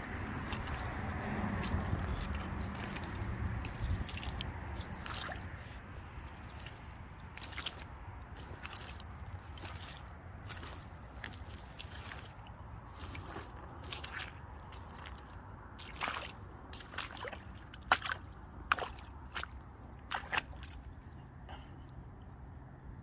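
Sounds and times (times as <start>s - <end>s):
rubber boots squelching in mud: 0.0s - 21.7s.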